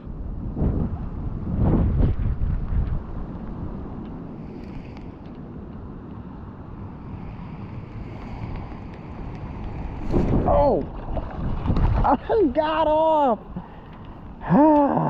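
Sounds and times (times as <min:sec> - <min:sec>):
steady rain: 0:00.0 - 0:15.0
wind buffeting microphone: 0:00.0 - 0:15.0.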